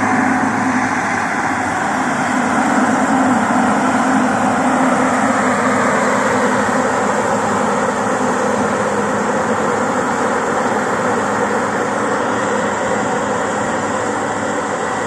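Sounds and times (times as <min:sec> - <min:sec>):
combine harvester running: 0:00.0 - 0:15.0
tractor running: 0:00.0 - 0:15.0.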